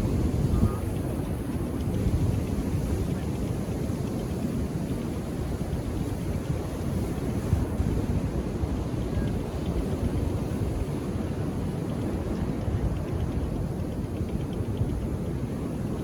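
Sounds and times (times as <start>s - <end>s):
low rumble of surf: 0.0s - 16.0s
wind buffeting microphone: 0.0s - 16.0s.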